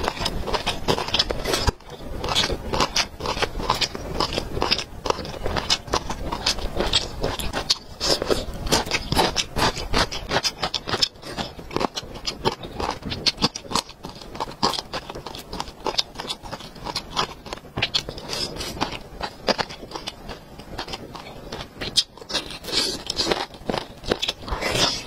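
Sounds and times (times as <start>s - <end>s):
cucumber crunching: 0.0s - 25.0s.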